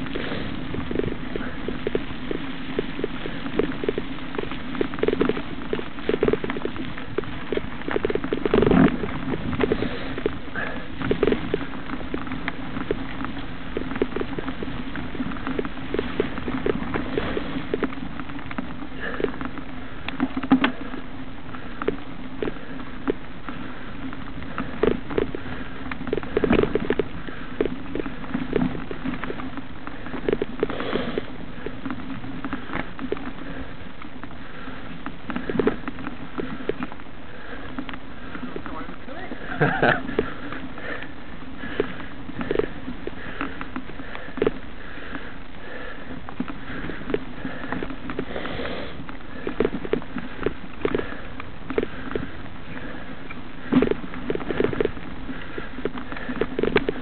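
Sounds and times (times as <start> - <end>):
bike knocking and rattling: 0.0 - 57.0
bike tyres on dirt: 0.0 - 57.0.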